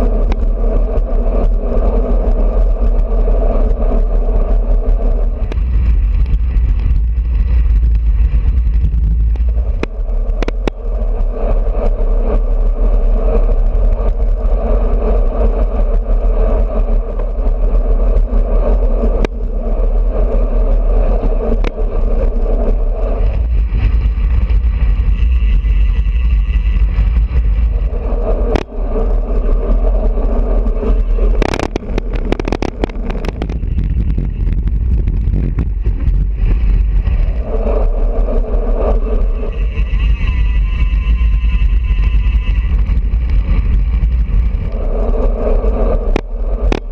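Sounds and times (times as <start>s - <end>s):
road and tyre noise: 0.0s - 46.9s
wind rushing over camera: 0.0s - 46.9s.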